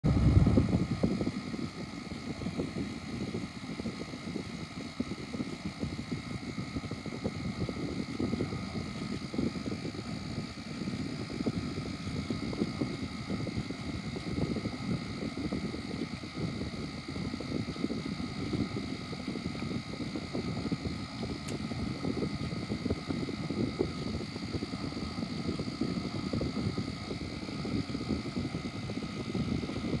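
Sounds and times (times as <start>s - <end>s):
air conditioner blower rushing: 0.0s - 30.0s.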